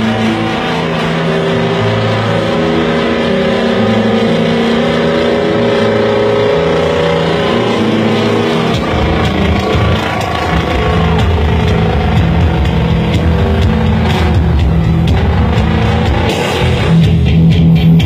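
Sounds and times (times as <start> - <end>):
loud diesel truck engines revving: 0.0 - 18.0.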